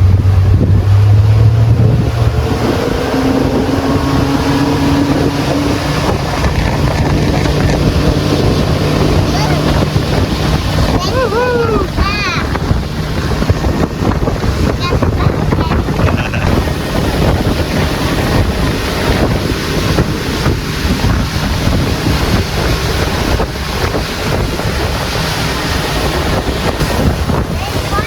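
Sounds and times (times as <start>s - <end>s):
boat engine rumble: 0.0s - 28.0s
wind buffeting microphone: 0.0s - 28.0s.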